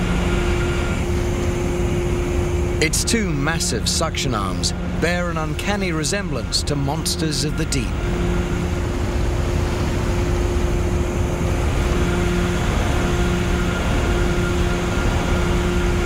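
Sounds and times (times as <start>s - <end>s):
lower machinery hum: 0.0s - 16.0s
machinery droning: 0.0s - 16.0s.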